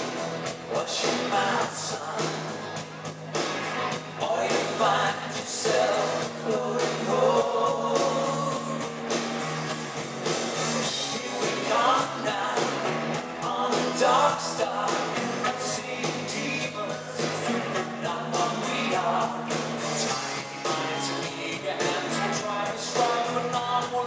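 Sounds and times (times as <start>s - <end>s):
pop-rock band playing: 0.0s - 24.0s
steady drum beat: 0.0s - 24.0s
person singing: 0.7s - 2.9s, 4.1s - 8.9s, 10.8s - 24.0s.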